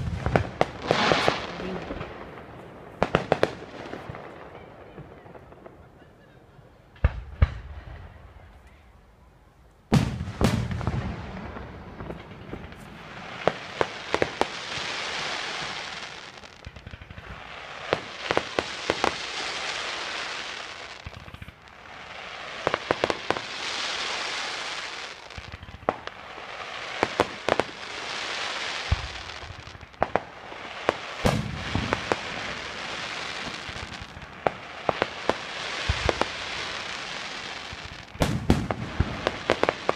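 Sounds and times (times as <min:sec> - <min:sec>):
crackling firework hisses: 0:00.0 - 0:04.0, 0:10.6 - 0:39.9.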